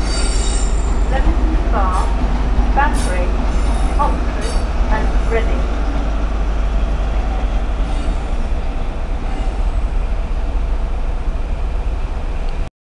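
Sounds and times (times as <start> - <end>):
train wheels rumbling on rails: 0.0 - 12.7.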